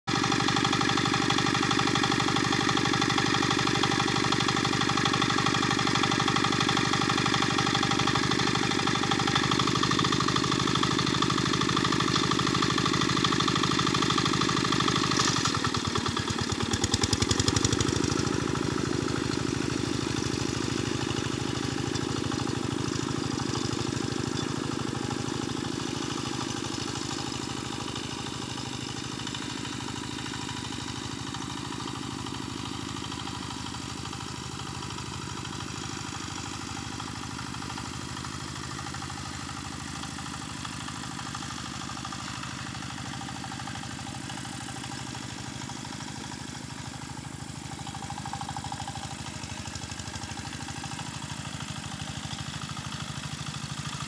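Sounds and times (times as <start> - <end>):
small tractor engine chugging: 0.1 - 54.0.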